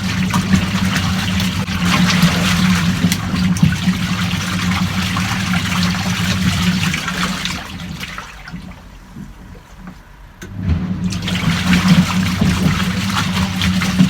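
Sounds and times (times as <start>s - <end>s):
wash water churning and sloshing: 0.0s - 14.0s
washing machine motor hum: 0.0s - 14.0s.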